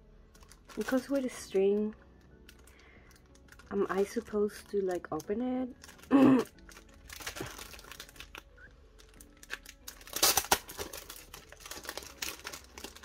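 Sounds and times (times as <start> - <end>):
plastic sleeve crinkling: 0.3 - 13.0.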